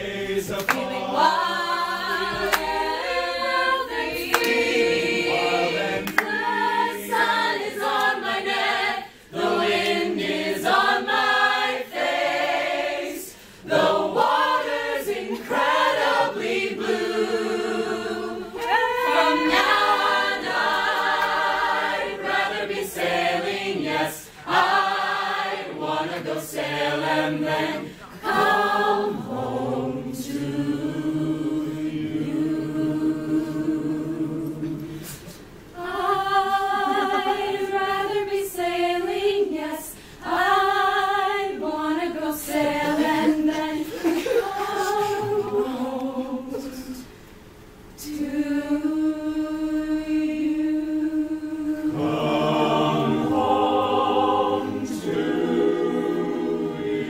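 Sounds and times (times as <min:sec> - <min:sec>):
a cappella choir singing: 0:00.0 - 0:57.0.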